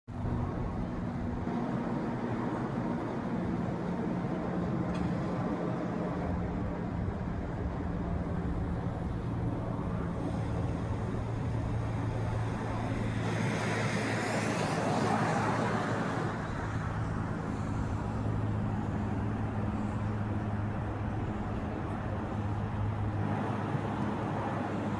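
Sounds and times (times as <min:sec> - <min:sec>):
city traffic: 0:00.1 - 0:24.9
propeller plane droning: 0:00.1 - 0:24.9.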